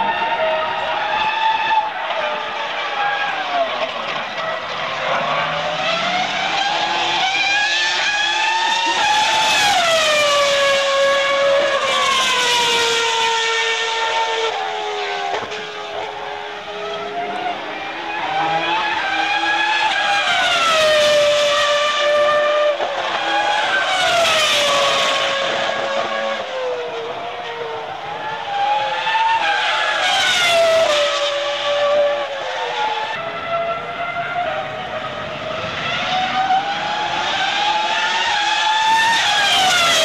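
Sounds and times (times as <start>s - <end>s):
racing car engines at high revs: 0.0s - 40.0s.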